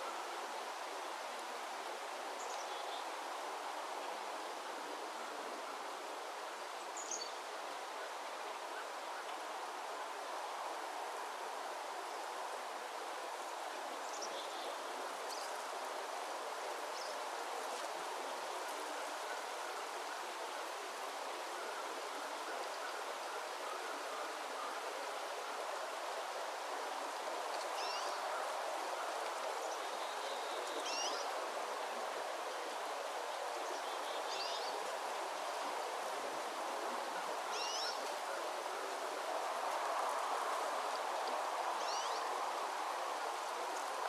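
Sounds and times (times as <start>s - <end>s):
stream running: 0.0s - 44.0s.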